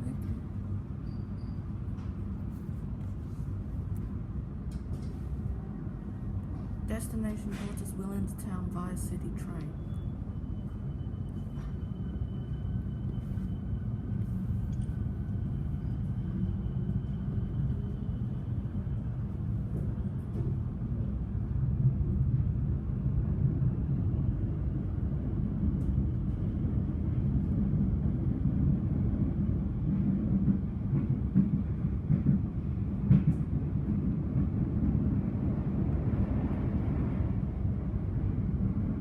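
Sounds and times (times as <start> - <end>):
train carriage rumble: 0.0 - 39.0.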